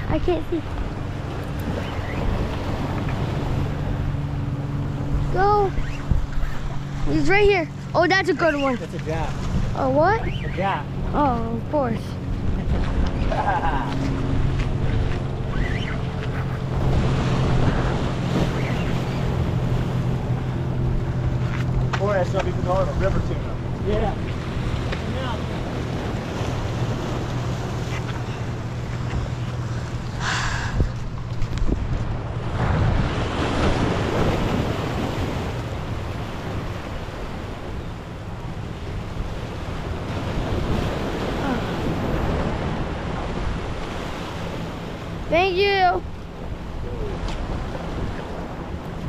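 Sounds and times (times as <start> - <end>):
steady low hum: 0.0 - 49.0
wind buffeting microphone: 0.0 - 49.0
waves breaking over rocks: 4.8 - 49.0.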